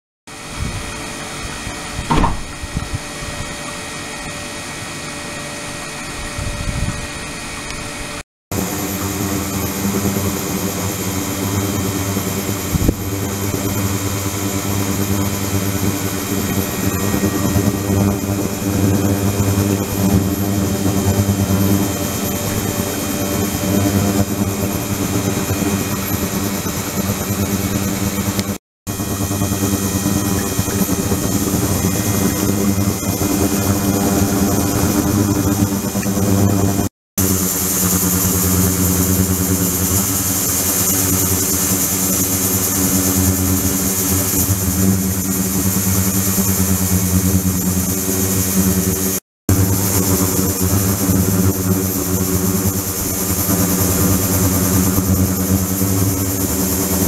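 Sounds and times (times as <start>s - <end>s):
ultrasonic cleaner humming: 0.3s - 57.0s.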